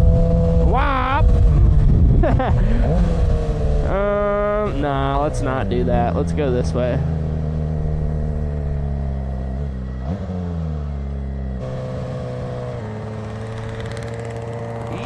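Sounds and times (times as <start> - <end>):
motorcycle engine: 0.0 - 15.0.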